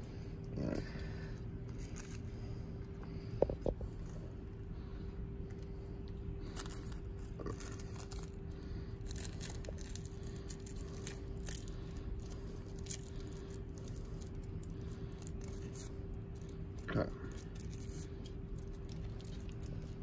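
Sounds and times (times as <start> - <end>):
steady low hum: 0.0 - 20.0
rolling paper crinkling: 0.9 - 20.0.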